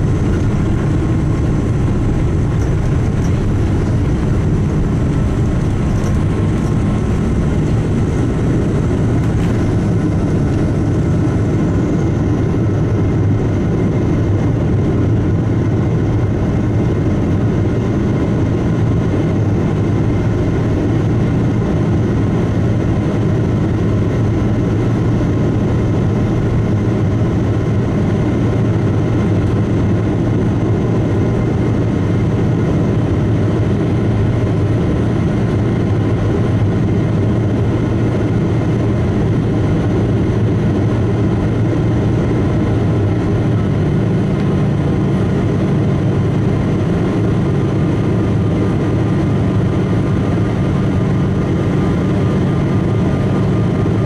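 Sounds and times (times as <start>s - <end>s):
jet engine roar with fan whine: 0.0s - 54.0s.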